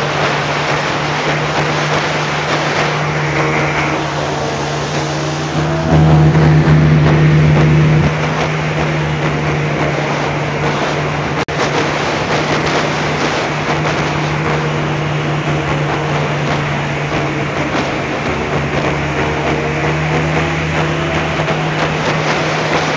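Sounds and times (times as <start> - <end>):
airboat engine and propeller: 0.0 - 22.9.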